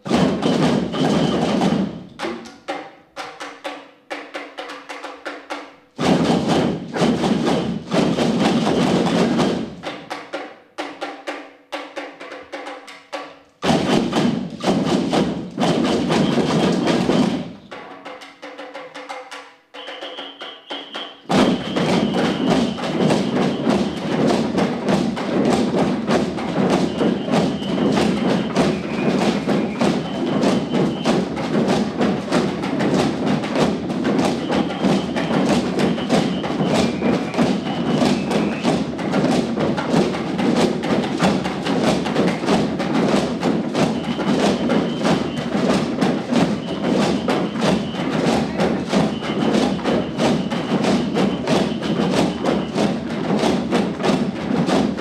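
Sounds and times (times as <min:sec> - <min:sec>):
ensemble of drums playing: 0:00.0 - 0:55.0.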